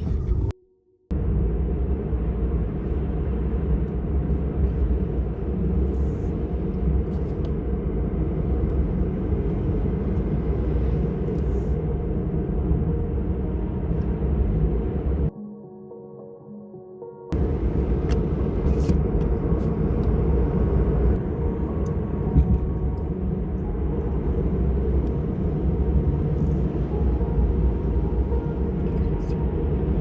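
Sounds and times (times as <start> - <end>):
car driving on highway: 0.0 - 15.3, 17.3 - 30.0.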